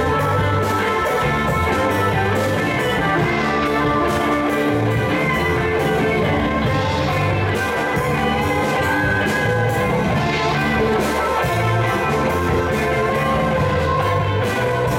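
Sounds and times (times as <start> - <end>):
electric bass: 0.0 - 14.9
electric guitars: 0.0 - 14.9
keyboard: 0.0 - 14.9.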